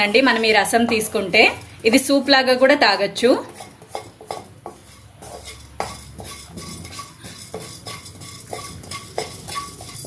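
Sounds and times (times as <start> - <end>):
spatula scraping seeds in pan: 0.0 - 10.0.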